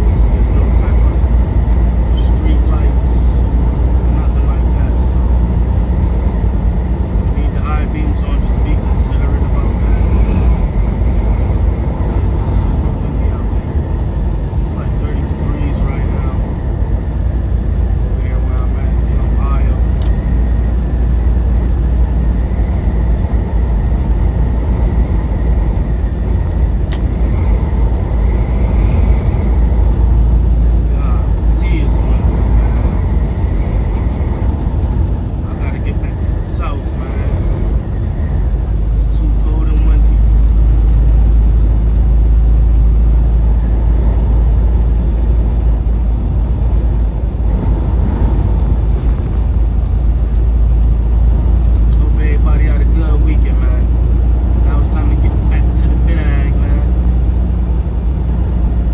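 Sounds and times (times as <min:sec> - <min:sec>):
strong wind: 0:00.0 - 0:58.9
truck engine and road rumble: 0:00.0 - 0:58.9.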